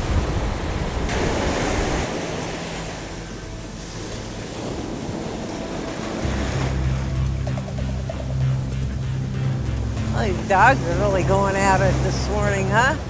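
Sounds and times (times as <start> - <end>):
heavy surf crashing: 0.0 - 13.0
low steady hum: 2.2 - 13.0.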